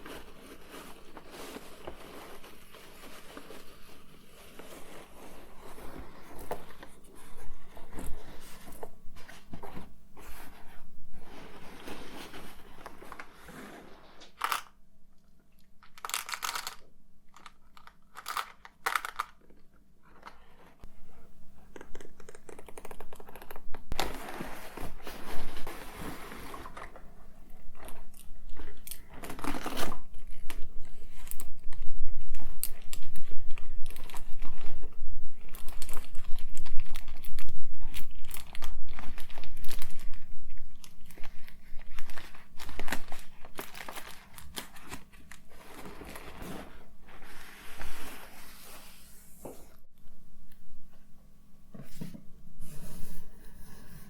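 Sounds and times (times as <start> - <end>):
packaging crinkling and rustling: 0.0 - 14.8, 15.8 - 19.6, 21.6 - 48.8.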